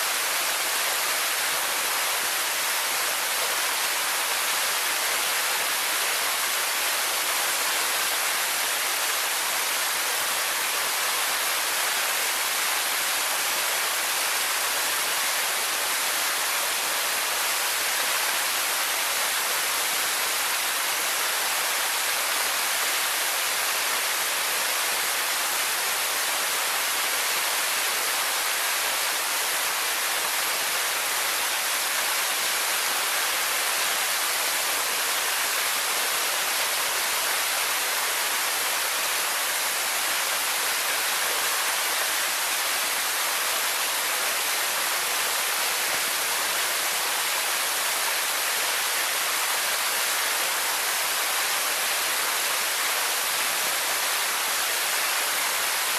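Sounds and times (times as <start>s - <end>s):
waterfall splashing: 0.0s - 55.9s.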